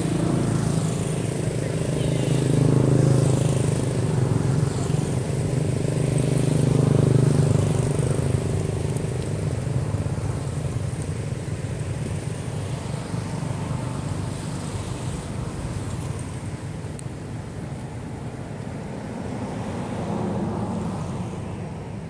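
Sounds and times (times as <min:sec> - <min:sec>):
vehicle engines humming: 0:00.0 - 0:22.0.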